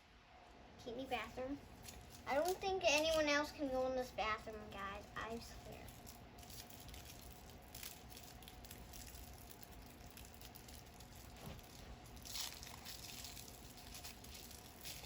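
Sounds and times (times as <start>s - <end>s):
plastic wrapping crinkling: 1.1s - 15.0s.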